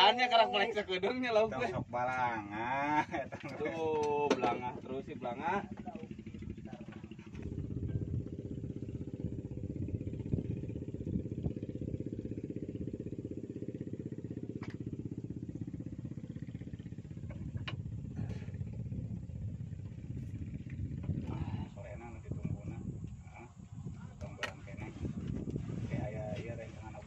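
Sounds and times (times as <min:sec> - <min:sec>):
small engine running: 0:02.5 - 0:27.0.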